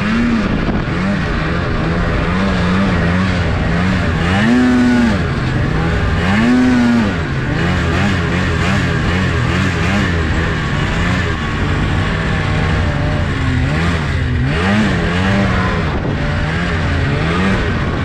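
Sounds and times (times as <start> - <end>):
snowmobile engine revving: 0.0 - 18.0
steady rush of noise: 0.0 - 18.0.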